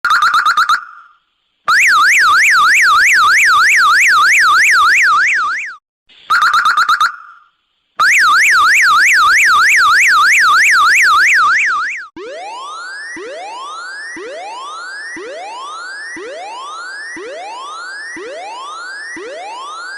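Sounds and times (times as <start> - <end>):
electronic siren yelp: 0.0 - 19.9
slow rising chirp tones: 0.1 - 19.9.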